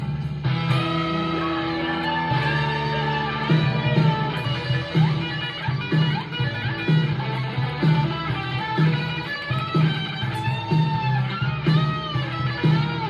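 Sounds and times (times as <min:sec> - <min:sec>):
electric guitar rock riff: 0:00.0 - 0:13.0.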